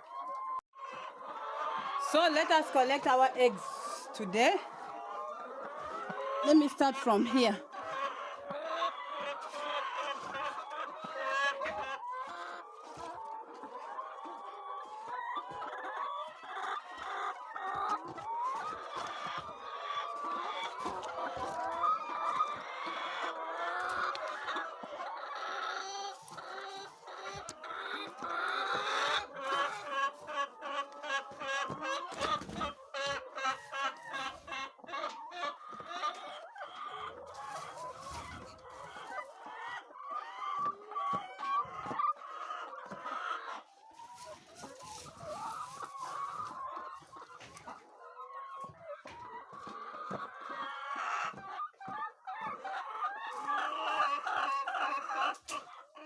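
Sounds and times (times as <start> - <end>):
hens clucking: 0.0 - 56.0.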